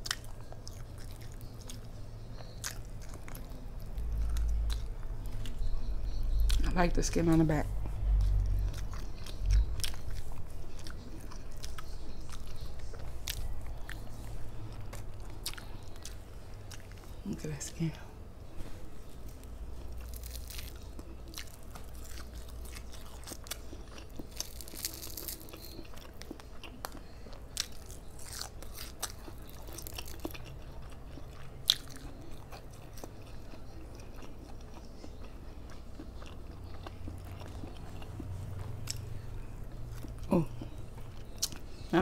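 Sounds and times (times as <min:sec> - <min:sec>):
crunchy chewing: 0:00.0 - 0:17.2, 0:18.5 - 0:42.0.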